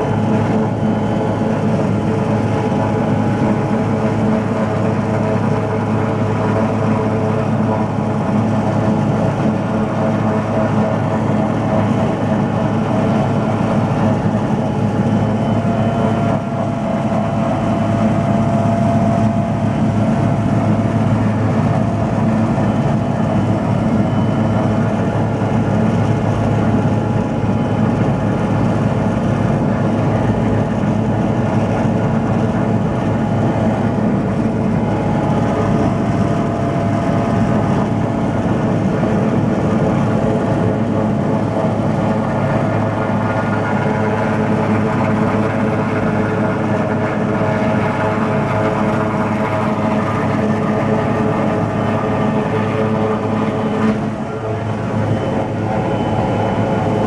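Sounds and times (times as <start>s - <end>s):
helicopter engine drone: 0.0s - 57.0s
helicopter engine whine: 0.0s - 57.0s.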